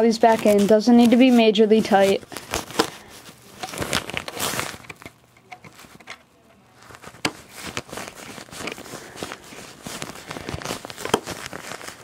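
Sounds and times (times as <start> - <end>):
handling rustling: 0.0 - 12.0.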